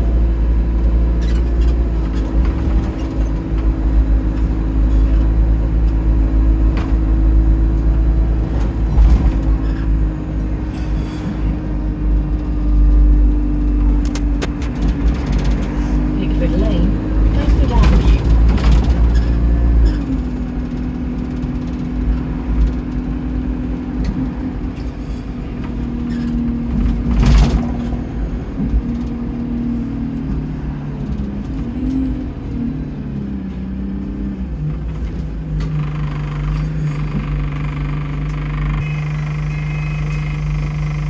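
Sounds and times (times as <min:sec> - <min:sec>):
bus engine running: 0:00.0 - 0:41.0.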